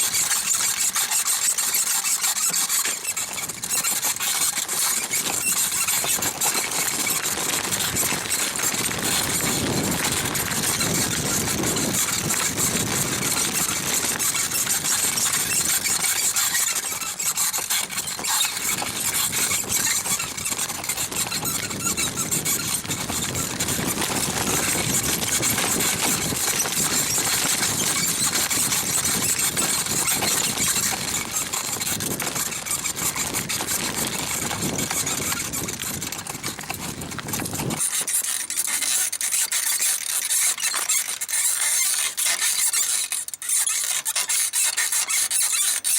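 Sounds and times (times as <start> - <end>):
bicycle saddle squeaking: 0.0 - 45.9.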